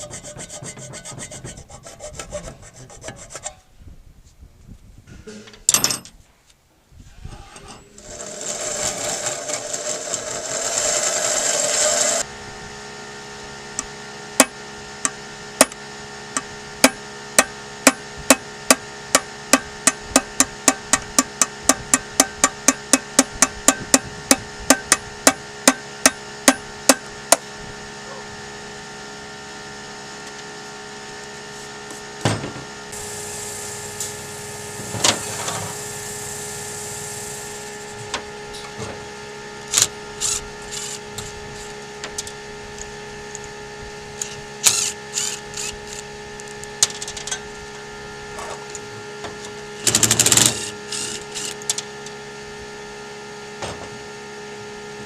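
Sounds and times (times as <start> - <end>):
loud steady noise: 8.0 - 55.0.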